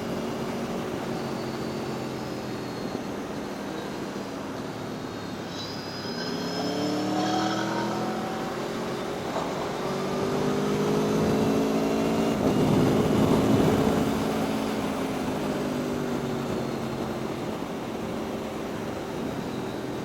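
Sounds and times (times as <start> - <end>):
motorcycle engine: 3.1 - 20.0.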